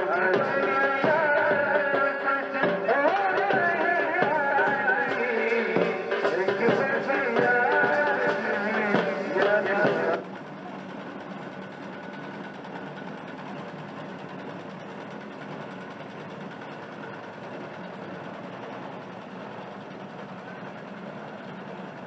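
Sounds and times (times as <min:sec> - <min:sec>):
engine running: 0:00.0 - 0:22.0
street noise over loudspeakers: 0:00.0 - 0:22.0.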